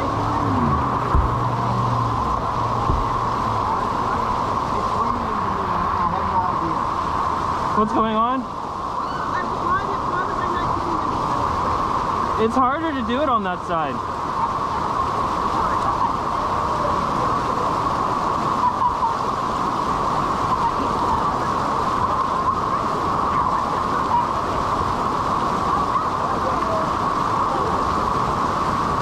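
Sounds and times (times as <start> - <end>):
whitewater rushing through rapids: 0.0 - 29.0.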